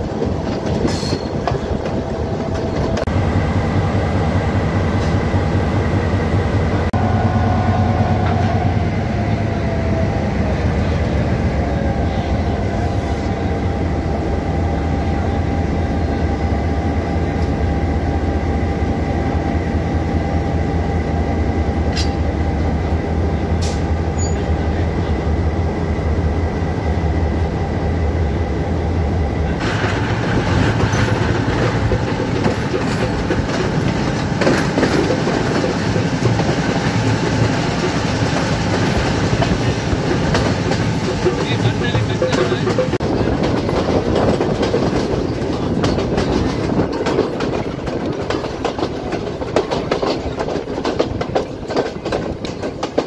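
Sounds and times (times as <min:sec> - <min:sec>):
diesel locomotive engine hum: 0:00.0 - 0:53.0
train moving along track: 0:00.0 - 0:53.0.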